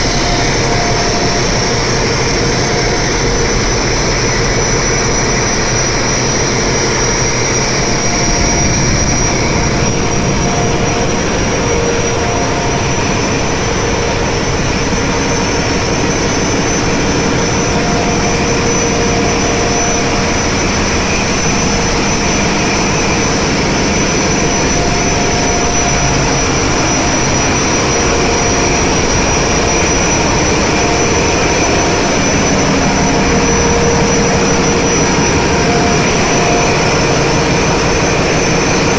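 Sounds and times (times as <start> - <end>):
engine room machinery roar: 0.0 - 38.9
high machinery whine: 0.0 - 38.9
low machinery hums: 0.0 - 38.9.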